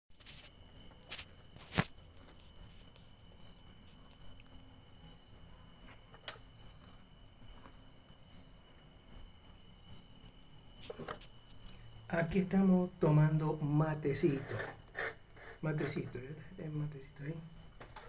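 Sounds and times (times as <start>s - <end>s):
cricket chirping: 0.1s - 18.0s.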